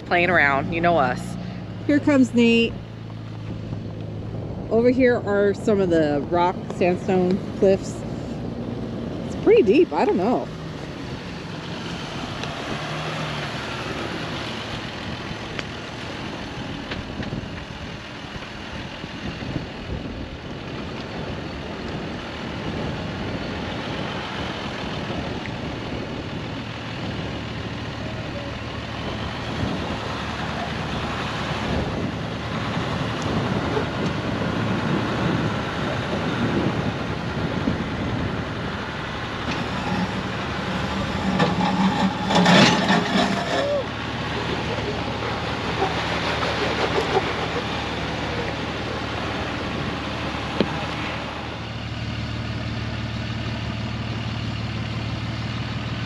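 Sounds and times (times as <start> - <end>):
wind noise on microphone: 0.0 - 28.4, 29.0 - 51.6
car engine running: 0.0 - 56.0.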